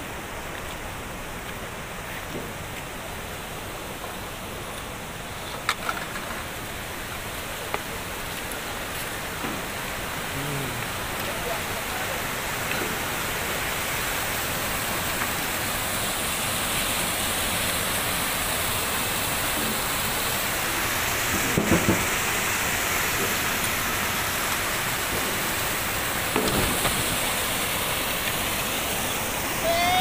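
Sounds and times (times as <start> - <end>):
whitewater rushing over rapids: 0.0 - 30.0.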